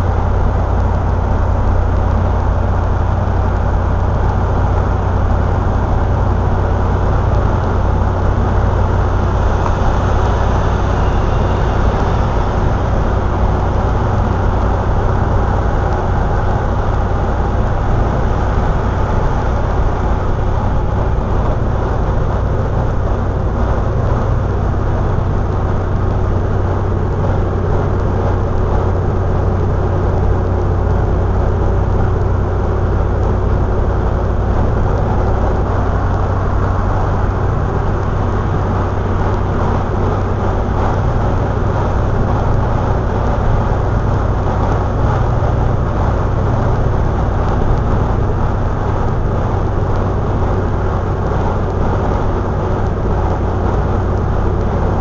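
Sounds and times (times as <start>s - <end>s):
car engine drone: 0.0s - 55.0s
road and wind rush: 0.0s - 55.0s.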